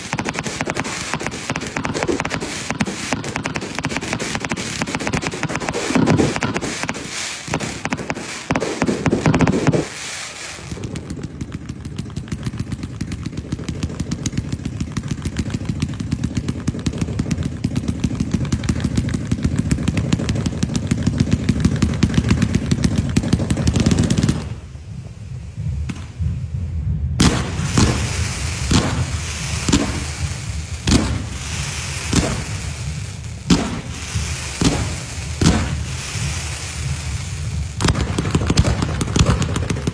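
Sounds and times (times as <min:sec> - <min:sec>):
firecrackers popping rapidly: 0:00.0 - 0:39.9
sharp firecracker bangs: 0:00.0 - 0:39.9.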